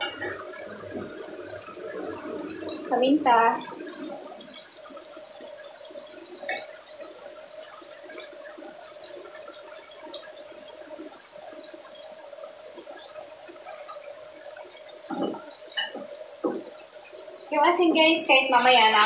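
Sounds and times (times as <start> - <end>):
sauce sizzling in a pan: 0.0 - 19.0
steady hum: 0.0 - 19.0.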